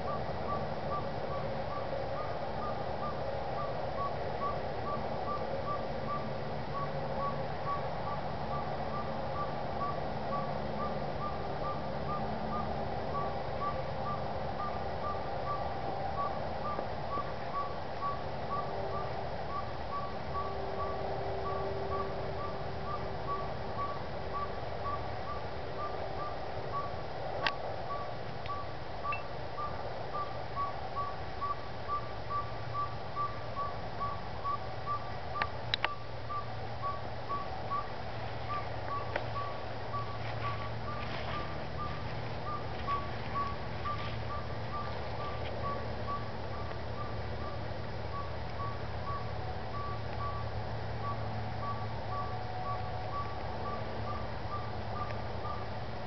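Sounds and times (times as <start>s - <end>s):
bird whistled toots: 0.0s - 15.6s, 16.2s - 27.0s, 27.9s - 37.9s, 38.5s - 50.4s.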